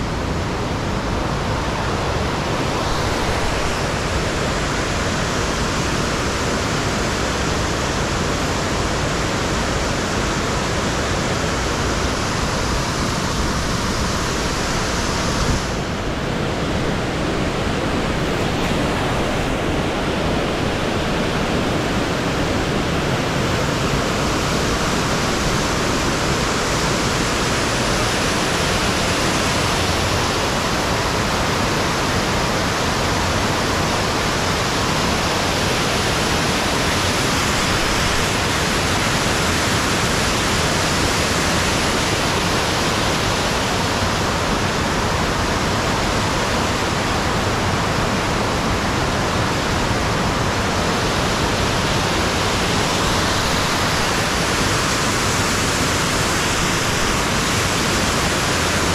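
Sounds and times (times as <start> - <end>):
waterfall roaring: 0.0 - 58.9.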